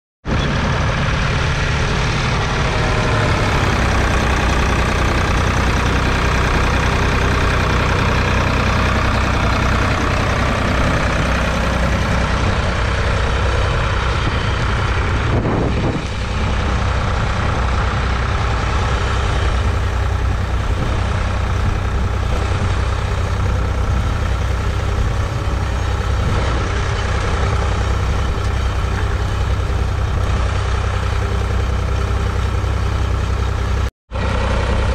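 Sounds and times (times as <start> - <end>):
diesel tractor engine running: 0.2 - 34.9.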